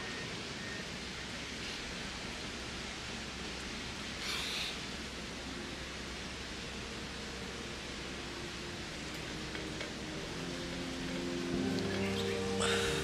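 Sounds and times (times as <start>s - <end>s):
rustling hiss: 0.0s - 13.0s
steady background hiss: 0.0s - 13.0s.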